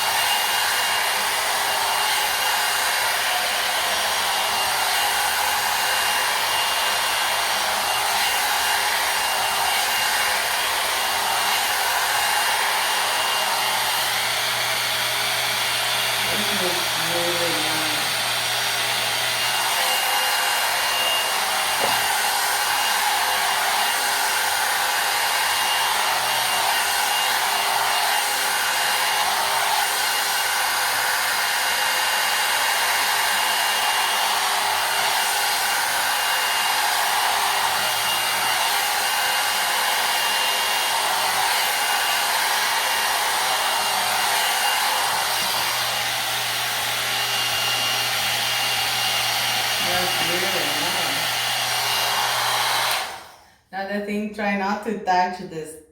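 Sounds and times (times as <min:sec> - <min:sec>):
hair dryer blowing air: 0:00.0 - 0:54.3.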